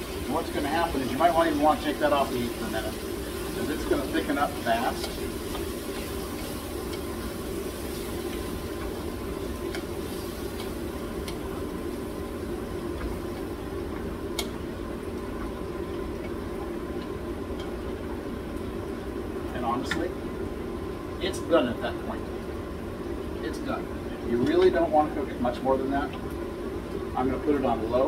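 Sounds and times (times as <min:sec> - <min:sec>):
sauce bubbling in a skillet: 0:00.0 - 0:27.9.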